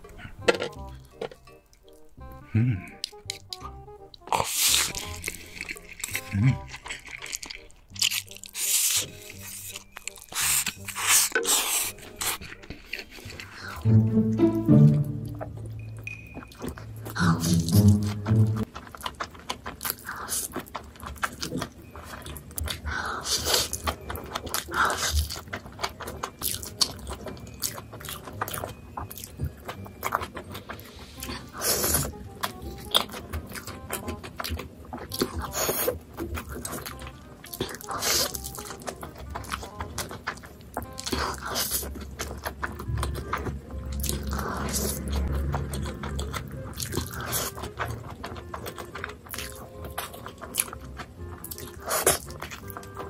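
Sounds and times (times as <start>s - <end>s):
chewing and slurping noodles: 2.9s - 53.0s.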